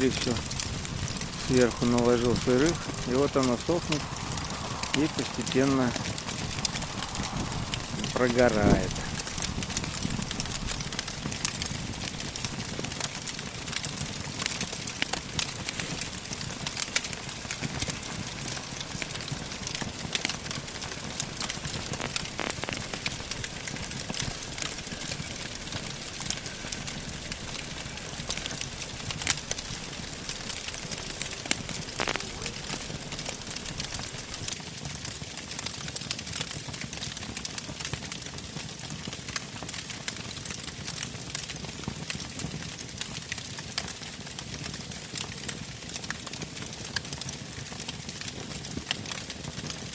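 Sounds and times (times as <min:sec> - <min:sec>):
campfire crackling and popping: 0:00.0 - 0:49.9
fire hissing: 0:00.0 - 0:49.9.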